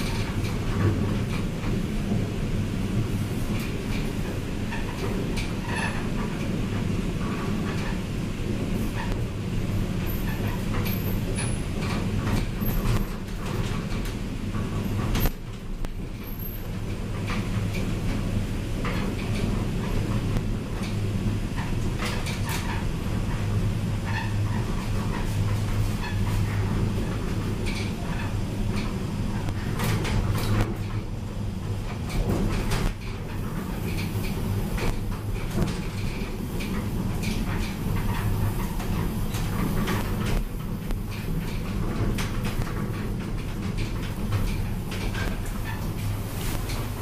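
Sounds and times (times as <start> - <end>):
elevator car low hum: 0.0 - 47.0.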